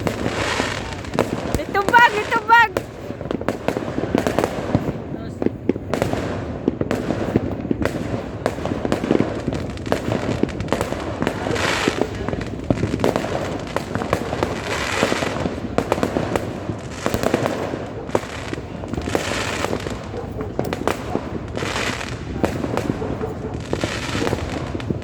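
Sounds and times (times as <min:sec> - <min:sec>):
fireworks banging: 0:00.0 - 0:25.0.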